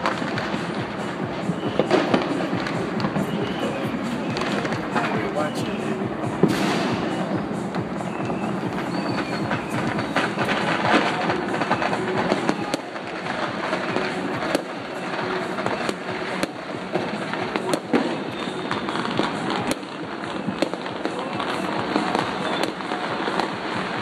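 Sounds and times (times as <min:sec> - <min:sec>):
firecrackers crackling: 0:00.0 - 0:24.0
loud firework reports: 0:00.0 - 0:24.0.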